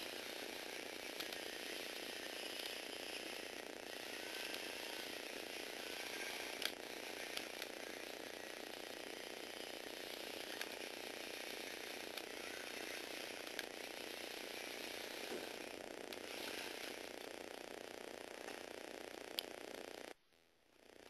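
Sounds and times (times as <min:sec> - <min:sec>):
motor and gears whirring: 0:00.0 - 0:20.2.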